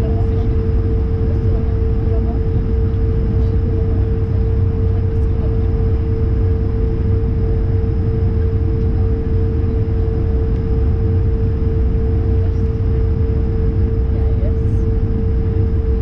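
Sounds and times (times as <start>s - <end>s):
aircraft cabin low rumble: 0.0s - 16.0s
steady cabin hum: 0.0s - 16.0s.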